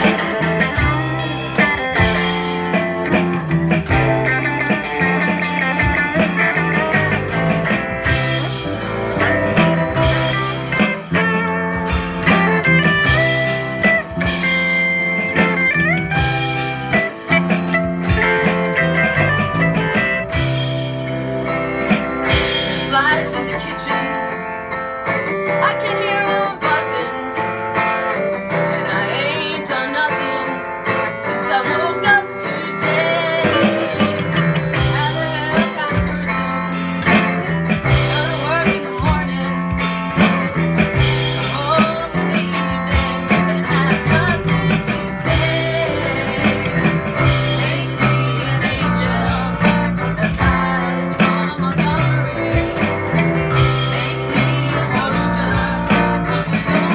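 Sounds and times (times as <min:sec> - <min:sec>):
drum kit: 0:00.0 - 0:26.9, 0:27.6 - 0:56.9
bass line: 0:00.0 - 0:29.7, 0:30.5 - 0:56.9
sustained guitar notes: 0:00.0 - 0:56.9.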